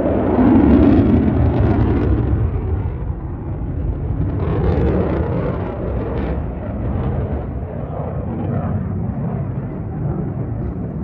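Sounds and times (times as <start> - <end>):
aircraft engine roar: 0.0 - 11.0.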